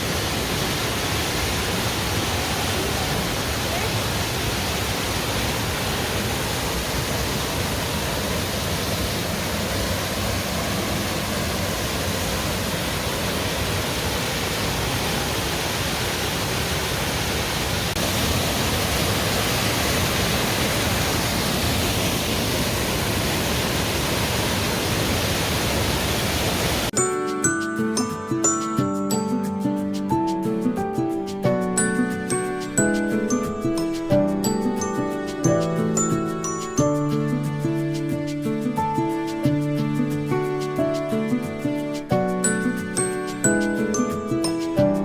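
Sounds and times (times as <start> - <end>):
flowing stream water: 0.0 - 45.0.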